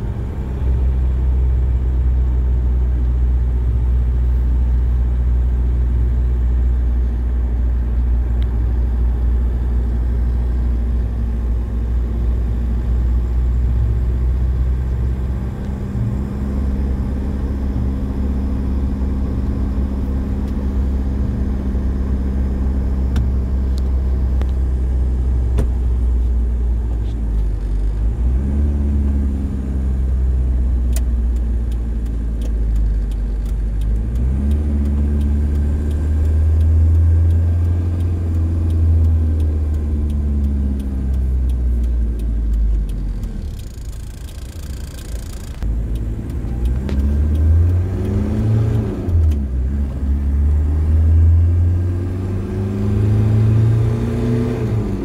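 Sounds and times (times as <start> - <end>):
truck engine through the gears: 0.0 - 55.0.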